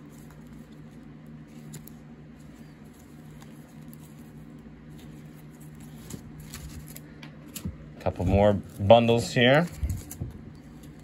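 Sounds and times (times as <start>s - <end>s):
cards rustling in plastic sleeves: 0.0s - 11.0s
steady low hum: 0.0s - 11.0s.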